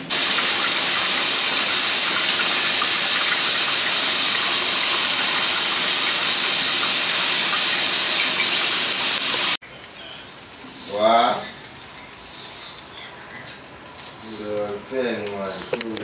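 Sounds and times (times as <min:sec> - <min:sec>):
loud steady hiss: 0:00.0 - 0:12.9.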